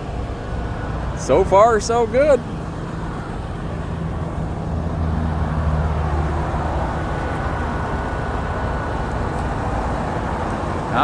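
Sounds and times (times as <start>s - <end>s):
low engine rumble: 0.0s - 11.0s
road traffic noise: 0.0s - 11.0s.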